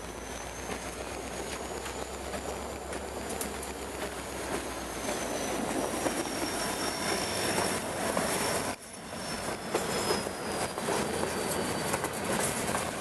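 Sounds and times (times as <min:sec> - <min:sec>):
high wheel squeal: 0:00.0 - 0:13.0
locomotive engine rumble: 0:00.0 - 0:13.0
steel wheels rattling on rail: 0:00.0 - 0:13.0.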